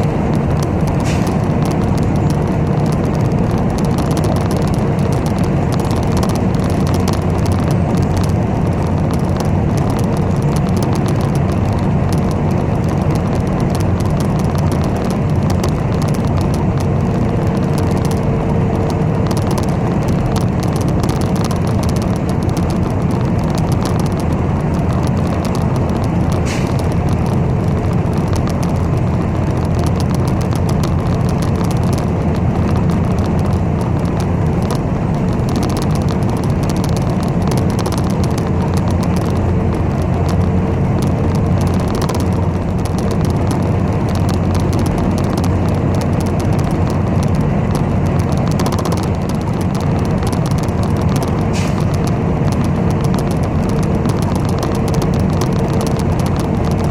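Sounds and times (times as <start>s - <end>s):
bus engine and road rumble: 0.0s - 56.9s.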